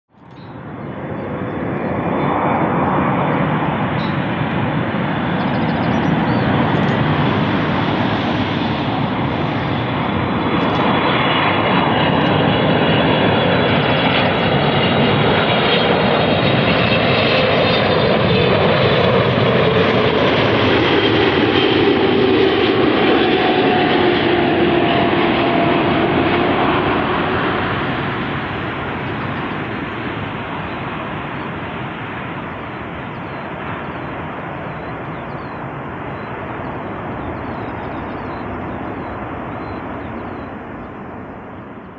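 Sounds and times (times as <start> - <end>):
jet engine whine: 0.1 - 41.9
jet engines roaring: 0.2 - 41.9.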